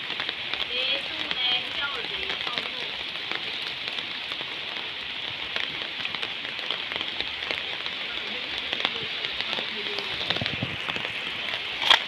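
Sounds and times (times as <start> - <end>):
rain pattering on leaves: 0.0 - 12.0.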